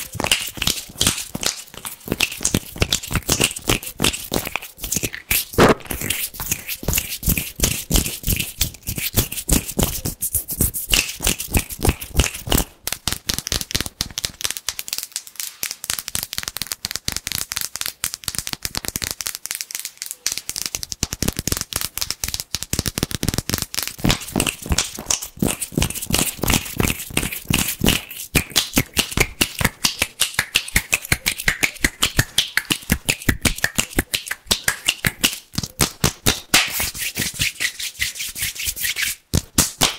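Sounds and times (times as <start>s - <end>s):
hand clicks and snaps: 0.0s - 38.2s, 38.9s - 39.9s
skin rubbing: 0.0s - 39.3s.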